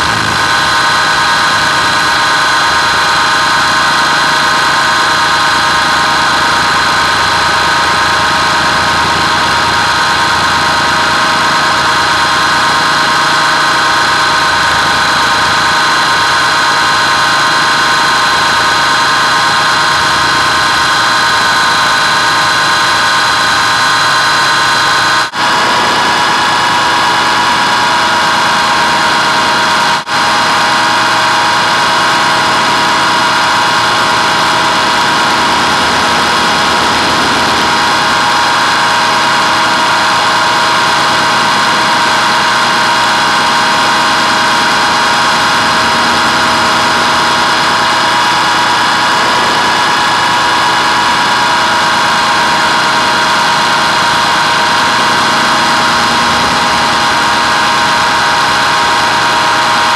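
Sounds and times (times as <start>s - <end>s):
model plane motor whine: 0.0s - 59.9s.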